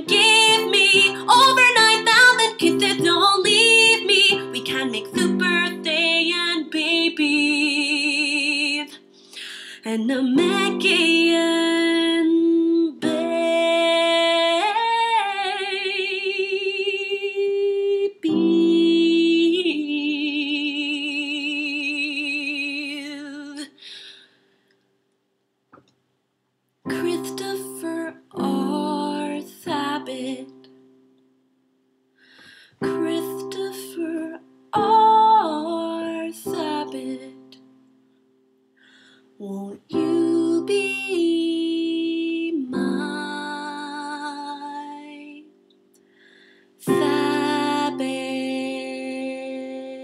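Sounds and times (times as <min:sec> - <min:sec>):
woman singing with vibrato: 0:00.0 - 0:09.1, 0:09.7 - 0:23.8, 0:26.9 - 0:30.6, 0:32.8 - 0:37.6, 0:39.4 - 0:45.6, 0:46.8 - 0:50.0.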